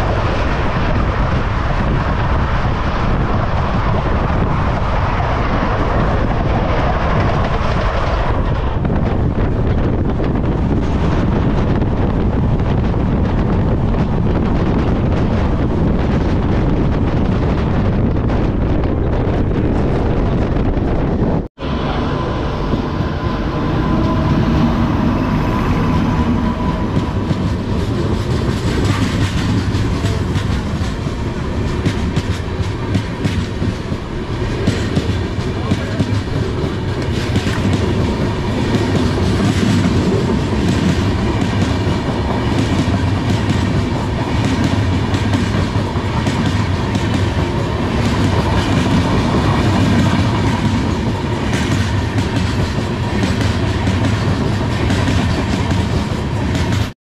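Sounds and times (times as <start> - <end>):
train coach rumble: 0.0 - 57.0.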